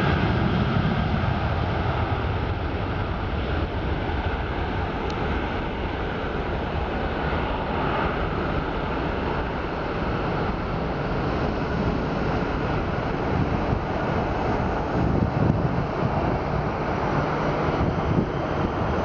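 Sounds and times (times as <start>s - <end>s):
distant jet engines rumbling: 0.0s - 19.0s
wind buffeting microphone: 0.0s - 19.0s.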